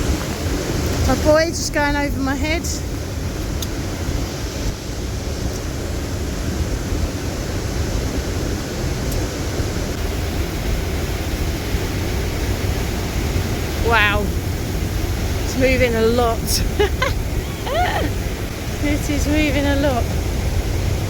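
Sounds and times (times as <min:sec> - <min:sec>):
rushing river roar: 0:00.0 - 0:21.0.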